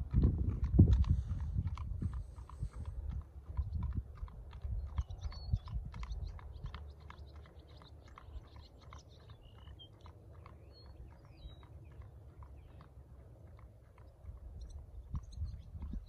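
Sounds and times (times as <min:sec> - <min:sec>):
horse hooves on pavement: 0:00.0 - 0:16.0
birds chirping: 0:01.1 - 0:16.0.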